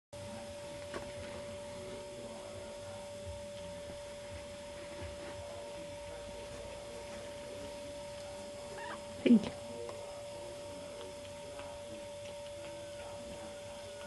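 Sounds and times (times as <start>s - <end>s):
steady hum: 0.2s - 14.0s.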